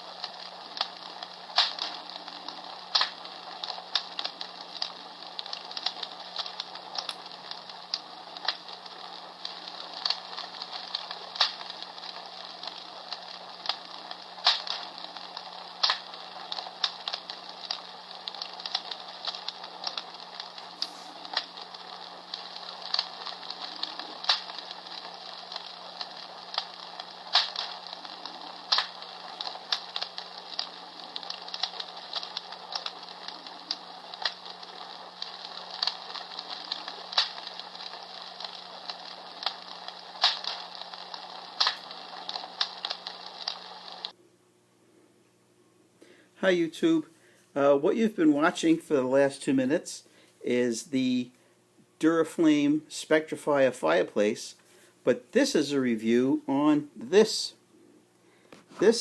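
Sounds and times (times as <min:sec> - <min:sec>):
recorded fire crackling from speaker: 0:00.0 - 0:44.2, 0:45.9 - 0:59.0.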